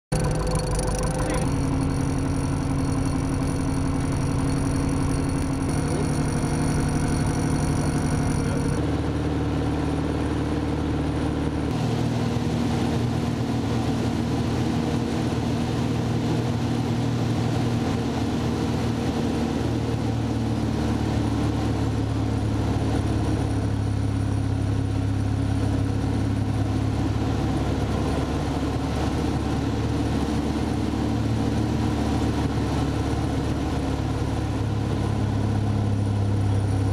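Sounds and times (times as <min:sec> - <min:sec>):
aircraft engine and propeller: 0:00.1 - 0:36.9.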